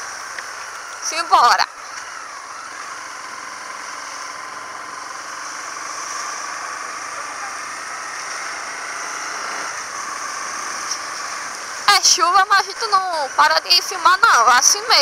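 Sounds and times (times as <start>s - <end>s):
engine-like drone: 0.0s - 15.0s.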